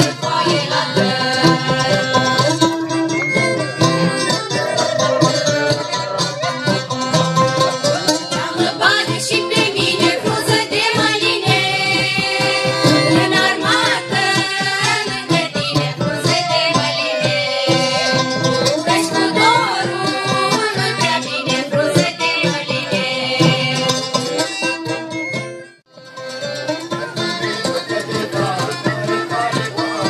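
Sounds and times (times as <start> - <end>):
mixed choir singing folk song: 0.0 - 24.5, 27.0 - 30.0
accordion: 0.0 - 30.0.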